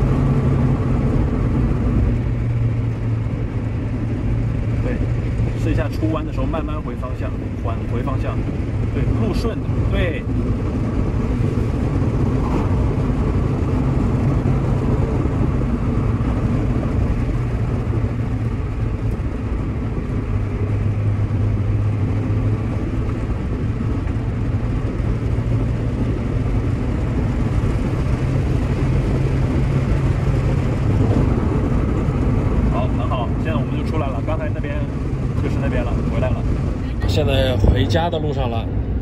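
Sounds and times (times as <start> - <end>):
car engine drone in cabin: 0.0 - 39.0.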